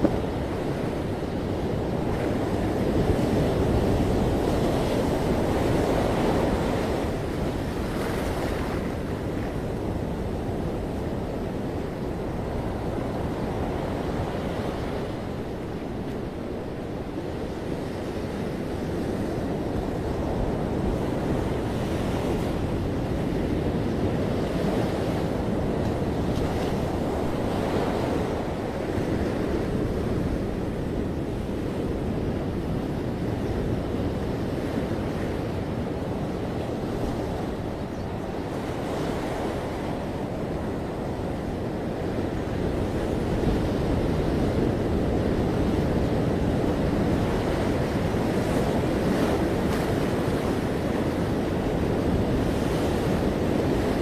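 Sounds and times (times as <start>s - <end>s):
ocean surf washing on beach: 0.0s - 54.0s.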